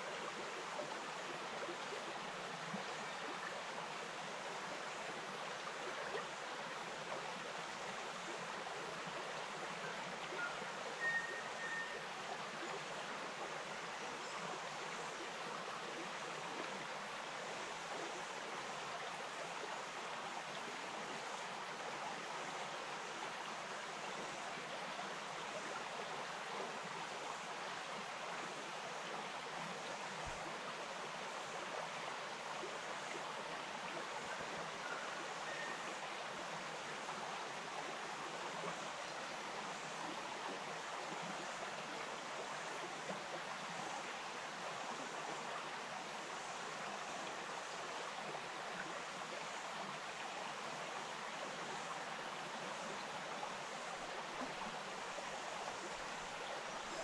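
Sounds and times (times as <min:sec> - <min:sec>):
stream flowing water: 0:00.0 - 0:57.0.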